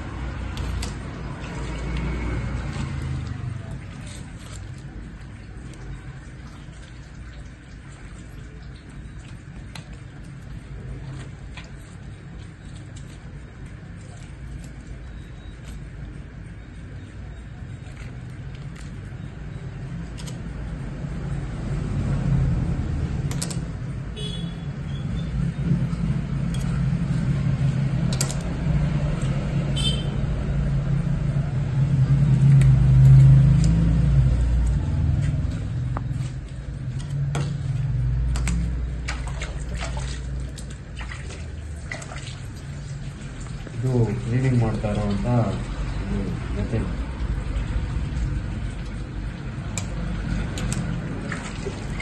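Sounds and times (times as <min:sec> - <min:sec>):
motor rumble: 0:00.0 - 0:52.0.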